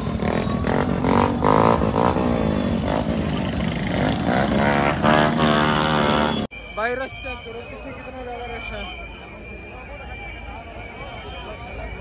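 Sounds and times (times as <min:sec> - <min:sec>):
motorcycle engines in traffic: 0:00.0 - 0:12.0.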